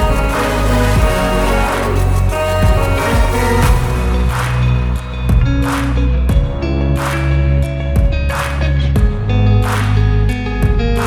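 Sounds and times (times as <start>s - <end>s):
background music with held chords: 0.0s - 9.8s.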